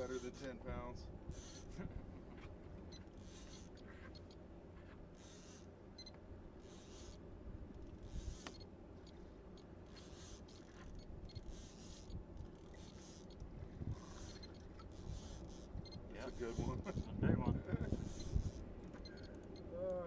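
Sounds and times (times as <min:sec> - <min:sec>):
fishing reel cranking: 0:00.0 - 0:00.5, 0:01.3 - 0:01.8, 0:03.0 - 0:04.4, 0:05.2 - 0:07.2, 0:07.8 - 0:19.6.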